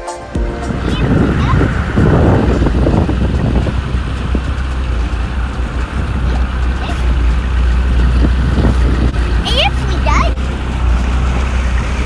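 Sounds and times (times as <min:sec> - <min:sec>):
outboard motor droning: 0:00.4 - 0:12.0.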